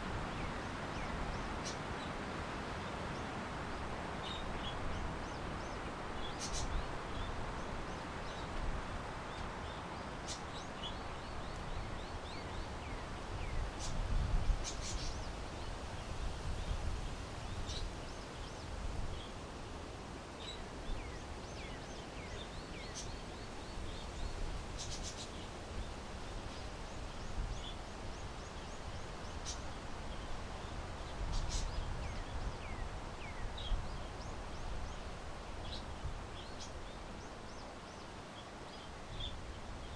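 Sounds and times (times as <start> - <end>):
wind rumble on microphone: 0.0 - 19.9, 20.5 - 37.7
small birds chirping: 0.2 - 19.3, 20.4 - 39.9.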